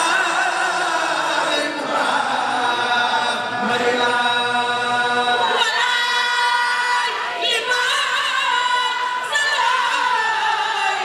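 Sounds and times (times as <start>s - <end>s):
women chanting together: 0.0s - 11.0s.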